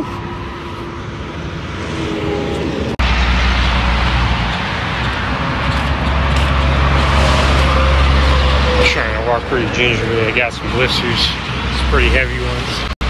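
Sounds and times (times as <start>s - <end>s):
cars passing on highway: 0.0s - 13.0s
low traffic rumble: 0.0s - 13.0s.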